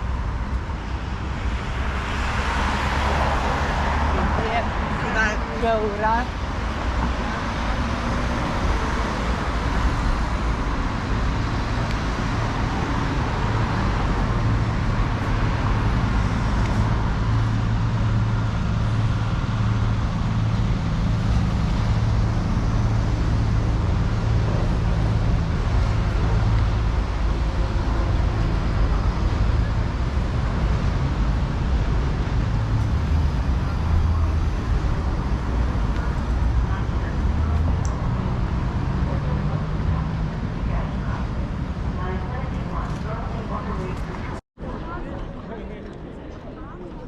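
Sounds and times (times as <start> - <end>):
road traffic noise: 0.0 - 47.0
vehicle engine humming nearby: 0.0 - 47.0.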